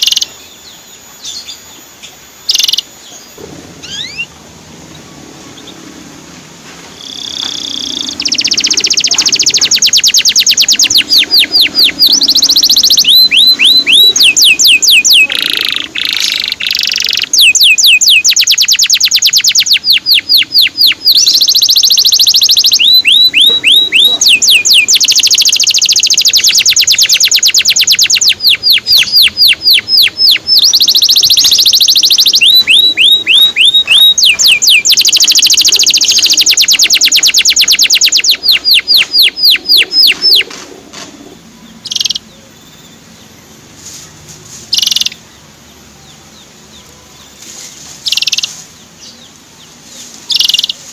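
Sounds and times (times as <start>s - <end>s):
canary singing trills and chirps: 0.0s - 6.0s, 6.9s - 40.6s, 41.2s - 43.8s, 44.6s - 50.9s.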